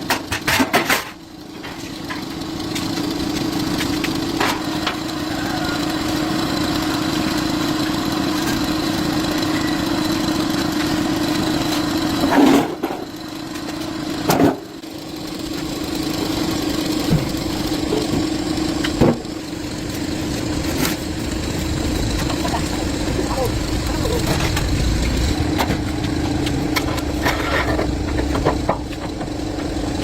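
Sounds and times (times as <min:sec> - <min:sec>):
machine humming: 0:02.5 - 0:30.0.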